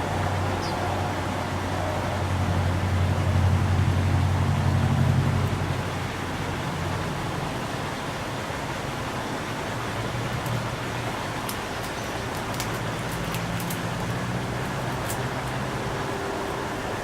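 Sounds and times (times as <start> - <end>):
passing vehicle rumble: 0.0 - 7.9, 9.7 - 17.0
steady outdoor noise: 0.0 - 17.0.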